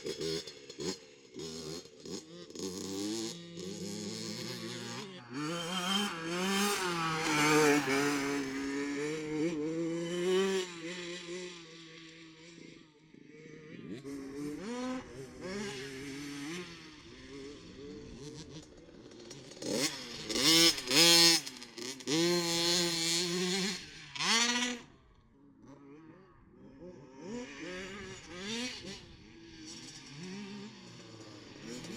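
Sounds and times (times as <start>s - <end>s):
motocross bike engines revving: 0.0s - 31.9s.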